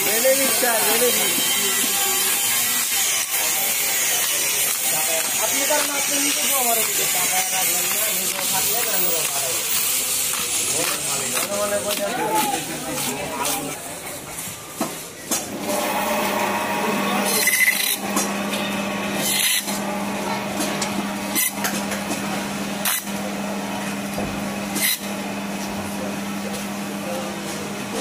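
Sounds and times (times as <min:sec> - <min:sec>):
band saw cutting fish: 0:00.0 - 0:13.8, 0:14.6 - 0:28.0.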